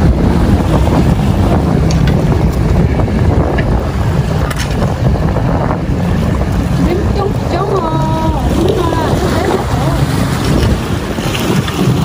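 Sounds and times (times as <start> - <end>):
sea water washing against rocks: 0.0 - 12.0
wind buffeting microphone: 0.0 - 12.0.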